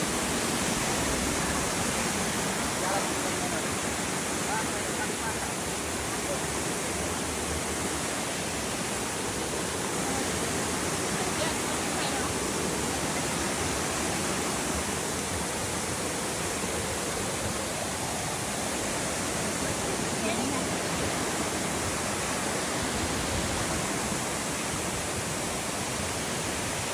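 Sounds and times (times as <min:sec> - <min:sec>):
mountain stream rushing: 0:00.0 - 0:26.9.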